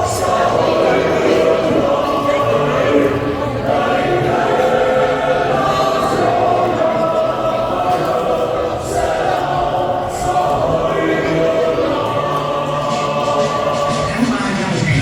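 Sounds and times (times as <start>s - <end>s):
background music: 0.0s - 15.0s
choir singing held notes: 0.0s - 15.0s.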